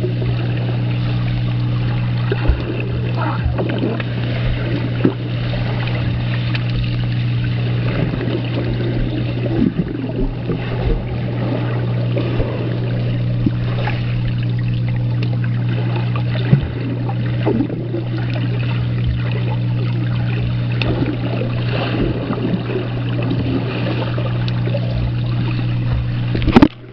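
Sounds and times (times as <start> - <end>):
low machine hum: 0.0 - 26.9
water sounds: 0.0 - 26.9.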